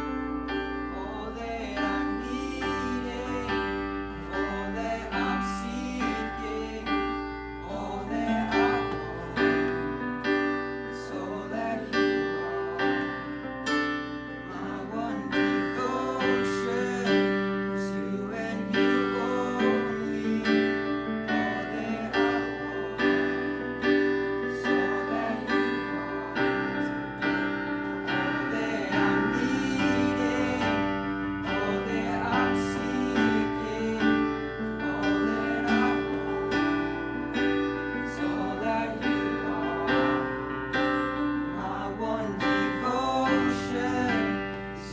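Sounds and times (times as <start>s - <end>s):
piano playing chords: 0.0s - 44.9s
person singing: 0.8s - 44.9s.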